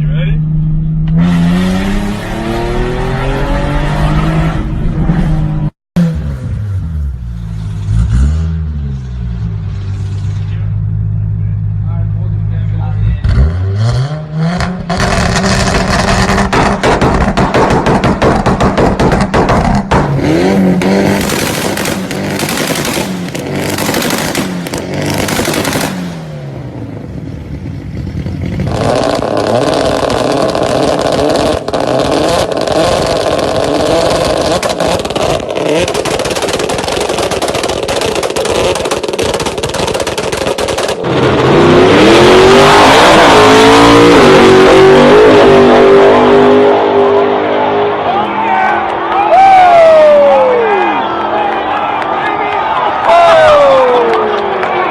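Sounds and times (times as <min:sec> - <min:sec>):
car engines revving and accelerating: 0:00.0 - 0:54.9.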